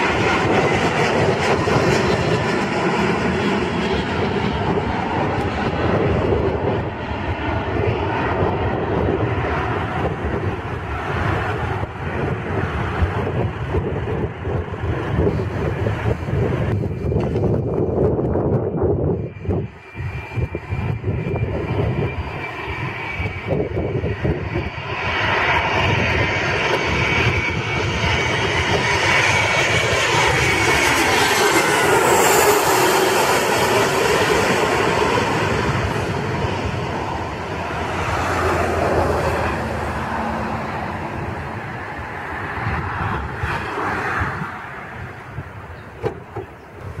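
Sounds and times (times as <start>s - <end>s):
jet airliner flying overhead: 0.0s - 47.0s
jet engine whine: 0.0s - 47.0s.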